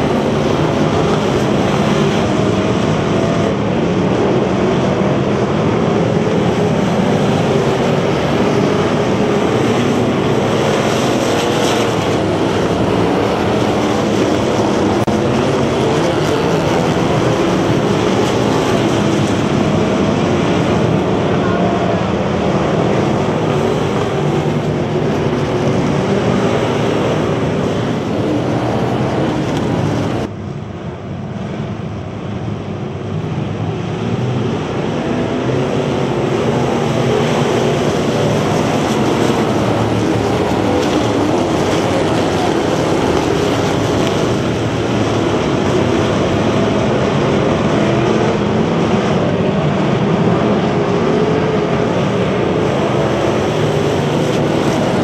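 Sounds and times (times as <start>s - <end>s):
race car engines droning: 0.0s - 55.0s.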